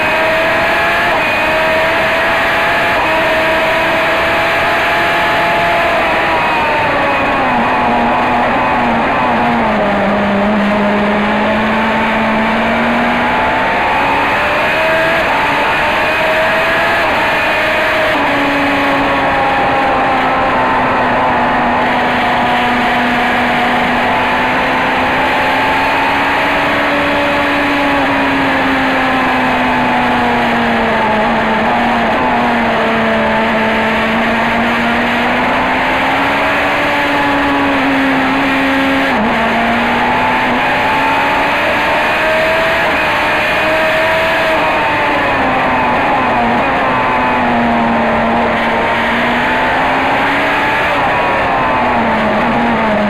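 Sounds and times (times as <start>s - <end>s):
racing car engine at high revs: 0.0s - 53.0s.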